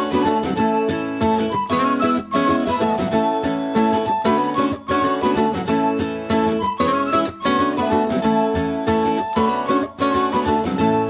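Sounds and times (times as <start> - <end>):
plucked-string melody: 0.0 - 11.0.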